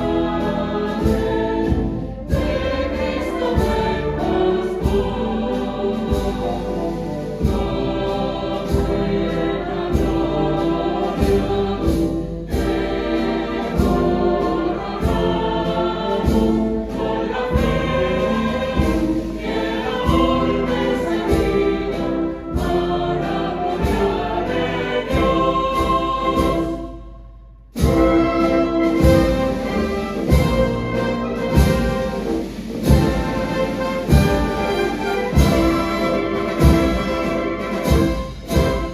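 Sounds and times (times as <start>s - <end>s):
wind band playing: 0.0s - 27.0s, 27.8s - 38.9s
choir singing a hymn: 0.0s - 38.9s
drum strokes: 0.0s - 38.9s.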